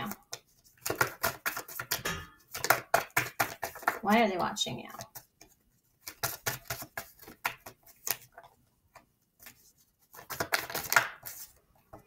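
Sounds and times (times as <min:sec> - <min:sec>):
cards shuffling and clicking: 0:00.0 - 0:04.0, 0:05.0 - 0:12.0.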